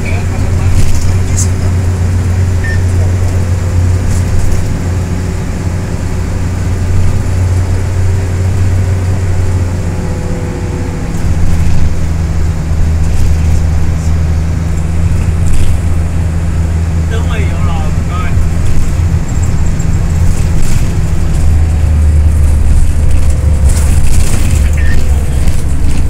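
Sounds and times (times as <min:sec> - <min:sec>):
minibus engine and road drone: 0:00.0 - 0:26.0.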